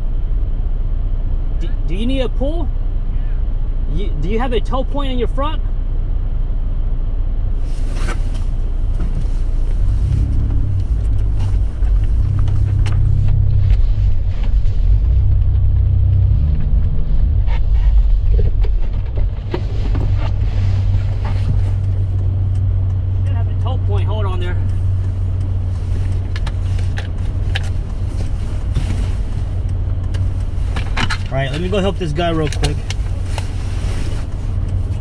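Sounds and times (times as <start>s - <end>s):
vehicle engine low hum: 0.0s - 35.0s.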